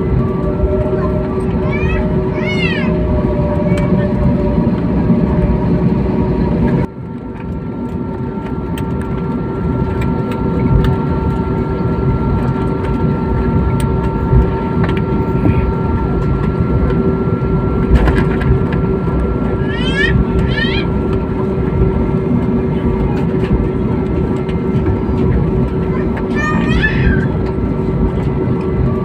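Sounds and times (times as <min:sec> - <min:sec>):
airliner cabin rumble and hum: 0:00.0 - 0:29.0.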